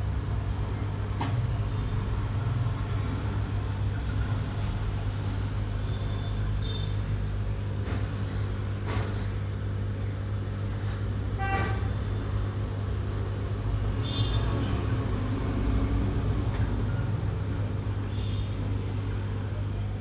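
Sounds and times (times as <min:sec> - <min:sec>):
aquarium pump humming: 0:00.0 - 0:20.0.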